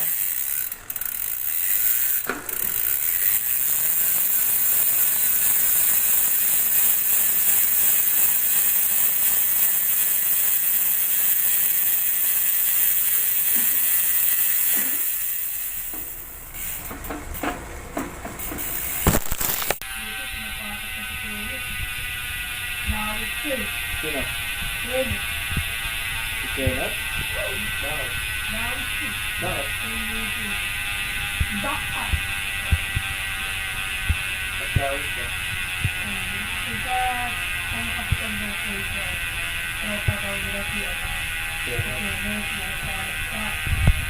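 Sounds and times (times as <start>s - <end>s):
bicycle freehub clicking: 0.0s - 17.5s, 18.4s - 44.0s.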